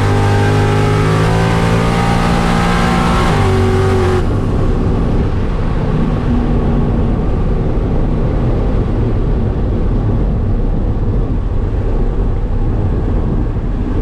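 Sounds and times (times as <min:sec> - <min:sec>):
car engine drone: 0:00.0 - 0:14.0
road and wind noise: 0:00.0 - 0:14.0.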